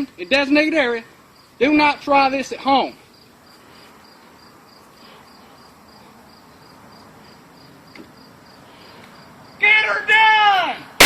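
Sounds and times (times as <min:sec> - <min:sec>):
insects chirping: 0:00.0 - 0:10.1
faint background hiss: 0:00.0 - 0:11.0.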